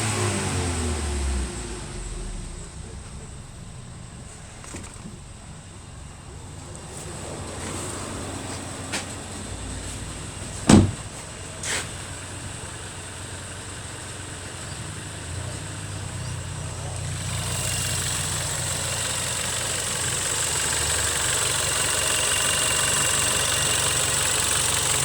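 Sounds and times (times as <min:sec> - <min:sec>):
car engine idling: 0:00.0 - 0:25.0
engine knocks: 0:02.3 - 0:25.0.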